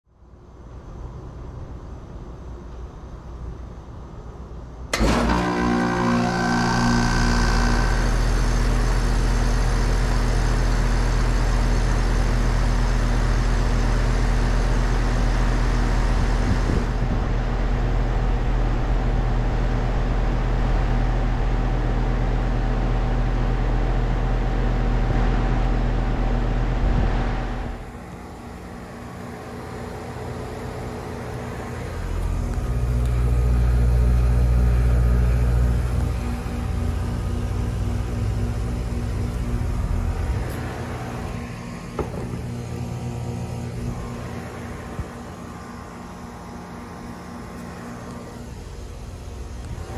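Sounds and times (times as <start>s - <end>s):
heat pump compressor and fan humming: 0.1s - 49.9s.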